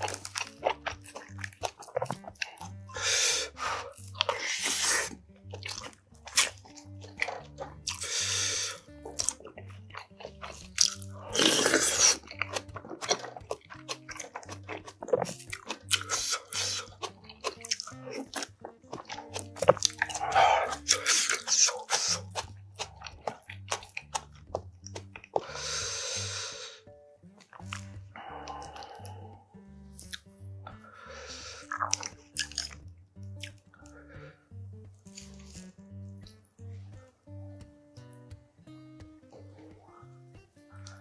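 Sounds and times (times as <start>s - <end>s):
chewing and biting mouth sounds: 0.0s - 25.8s, 27.3s - 41.0s
soft background music: 0.0s - 41.0s.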